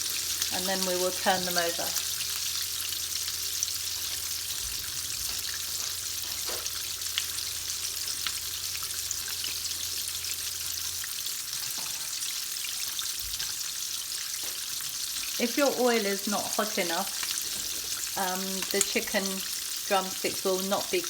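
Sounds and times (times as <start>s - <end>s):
chicken deep-frying in oil: 0.0s - 21.0s.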